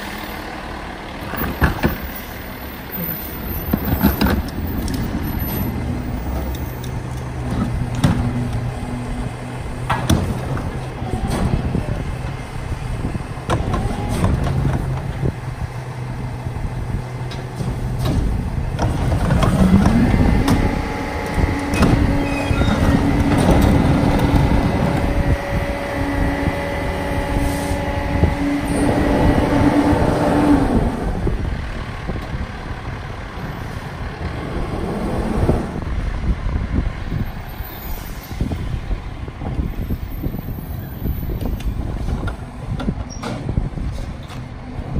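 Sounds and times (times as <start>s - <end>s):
diesel truck engine idling and revving: 0.0s - 44.9s.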